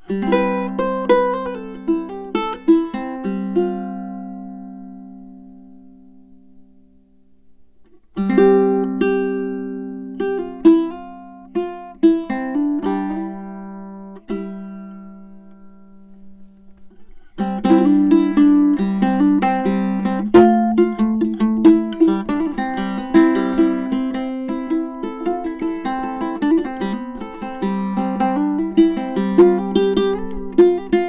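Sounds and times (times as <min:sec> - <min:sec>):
ukulele playing: 0:00.0 - 0:07.1, 0:07.8 - 0:31.0.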